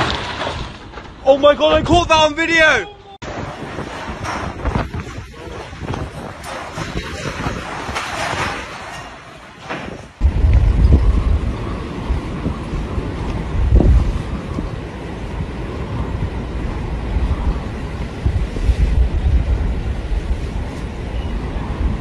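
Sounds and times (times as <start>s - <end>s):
wind buffeting microphone: 1.1s - 22.0s.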